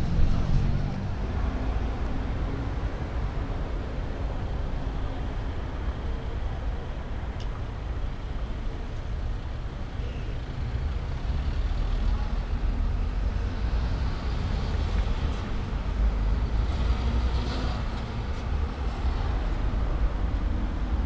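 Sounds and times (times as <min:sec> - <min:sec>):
cars and lorry passing: 0:00.0 - 0:21.0
steady low traffic rumble: 0:00.0 - 0:21.0.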